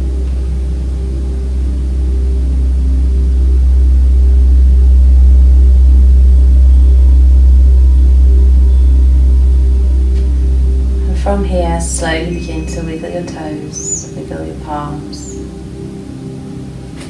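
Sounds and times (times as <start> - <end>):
deep bass drone: 0.0 - 17.0
soft sustained tones: 0.0 - 17.0.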